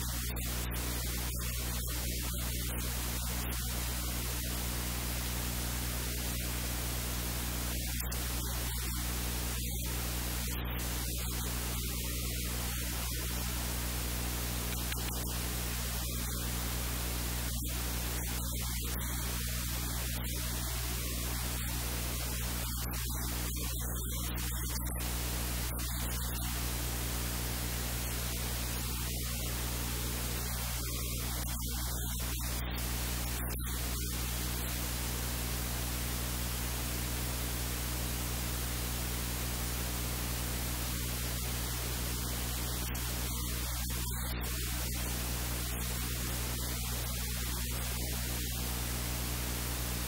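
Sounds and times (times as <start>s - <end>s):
static hiss: 0.0s - 50.0s.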